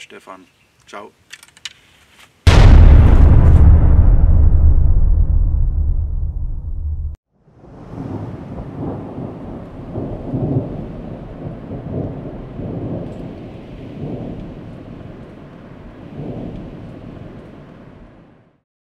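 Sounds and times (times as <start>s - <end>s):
thunder rumbles: 2.5s - 18.4s.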